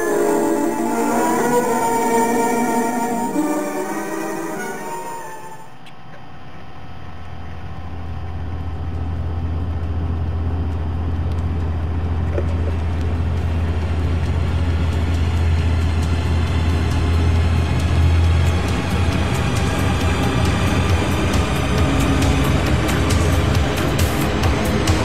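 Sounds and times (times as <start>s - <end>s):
low drone: 0.0s - 5.8s, 7.4s - 25.0s.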